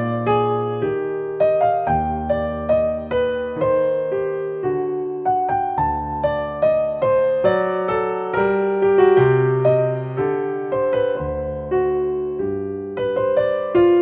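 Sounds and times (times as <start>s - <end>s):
soft piano melody: 0.0s - 14.0s.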